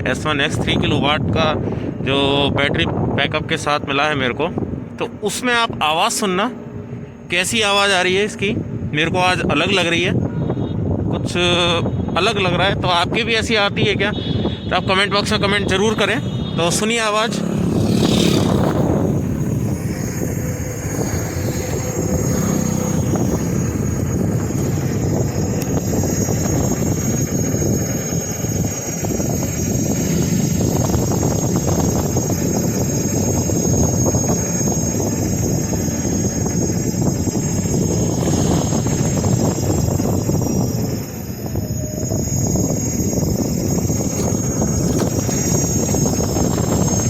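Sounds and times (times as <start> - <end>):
high-pitched whine: 3.8 - 47.0
scooter motor and tyre rumble: 8.2 - 47.0.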